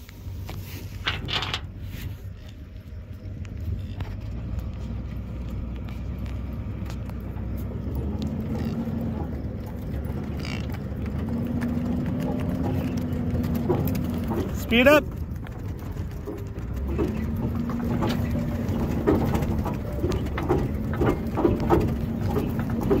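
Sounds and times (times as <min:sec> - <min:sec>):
engine humming tone: 0:00.0 - 0:23.0
truck engine and tyre rumble: 0:00.0 - 0:23.0.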